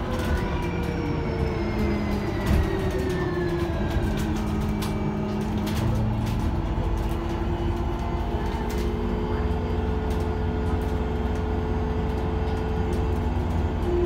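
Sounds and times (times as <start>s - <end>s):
bus engine rumble with whine: 0.0s - 14.0s.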